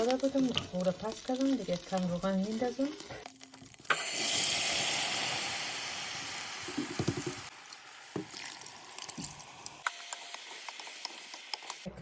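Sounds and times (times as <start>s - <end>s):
hot oil sizzling in a pot: 0.0s - 11.8s.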